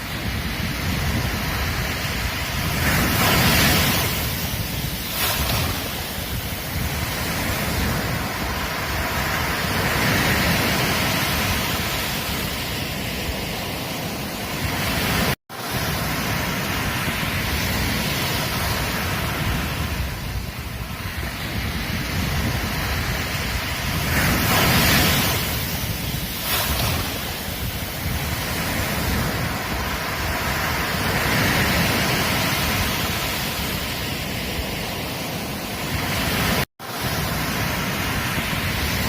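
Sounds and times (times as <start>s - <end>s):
ocean waves breaking on a beach: 0.0s - 39.0s.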